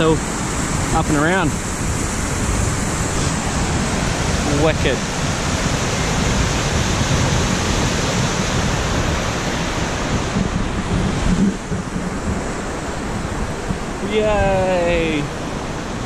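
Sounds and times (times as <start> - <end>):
waterfall rushing over rocks: 0.0 - 16.0
wind buffeting microphone: 0.0 - 16.0.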